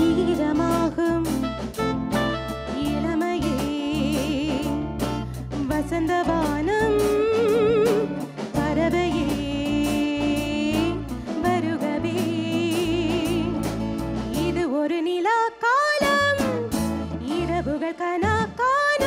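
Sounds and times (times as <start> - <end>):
live band playing: 0.0 - 19.0
woman singing with vibrato: 0.0 - 19.0.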